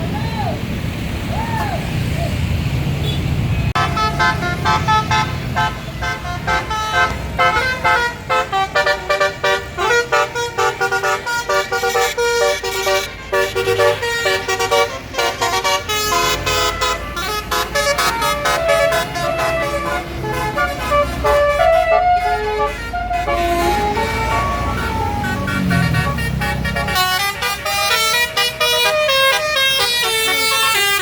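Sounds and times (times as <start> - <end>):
musical bus horn tooting: 3.0 - 31.0.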